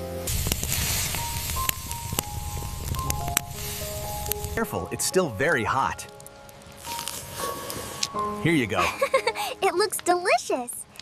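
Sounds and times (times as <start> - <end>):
soft music with held notes: 0.0 - 10.1.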